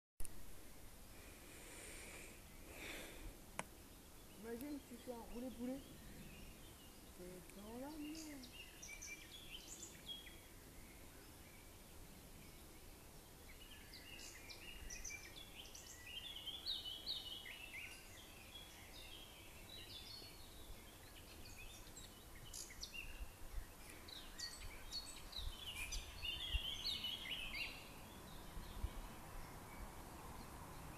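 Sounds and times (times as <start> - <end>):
small birds chirping and trilling: 1.2 - 30.9.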